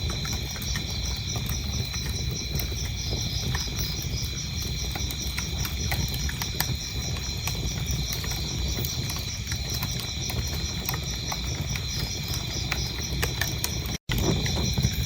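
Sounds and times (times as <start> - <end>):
crickets chirping: 0.0 - 15.0
wood fire crackling: 0.0 - 15.0.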